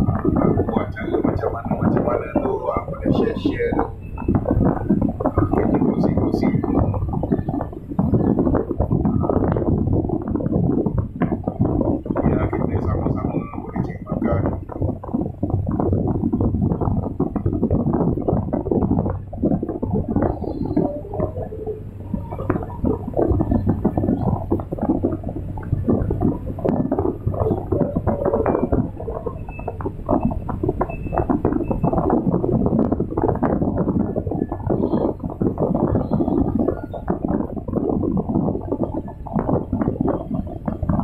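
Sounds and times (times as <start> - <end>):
diesel engine humming: 0.0 - 41.0
hydraulics rattling and clattering: 0.0 - 41.0.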